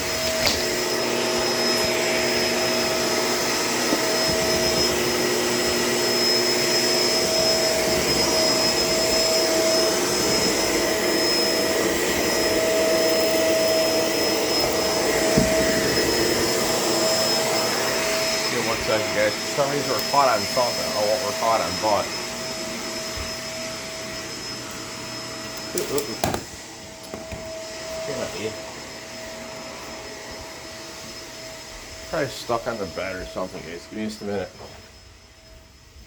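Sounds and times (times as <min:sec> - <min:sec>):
vacuum cleaner motor whine: 0:00.0 - 0:36.0.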